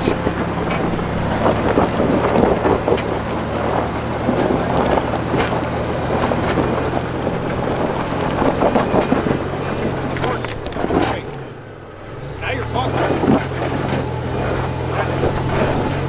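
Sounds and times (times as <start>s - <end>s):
truck engine running: 0.0s - 16.0s
tyres crunching on gravel: 0.0s - 16.0s
wind buffeting microphone: 0.0s - 16.0s.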